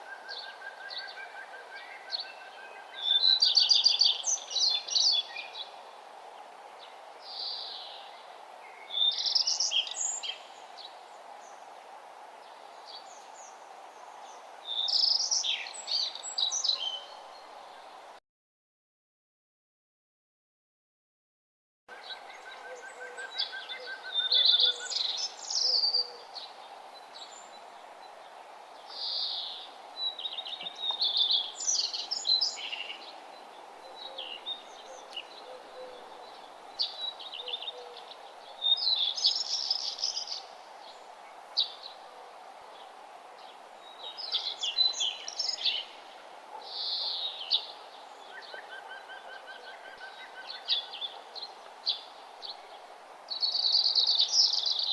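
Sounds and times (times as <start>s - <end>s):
steady background hiss: 0.0s - 18.2s, 21.9s - 54.9s
wild birds singing: 0.0s - 18.2s, 21.9s - 54.9s.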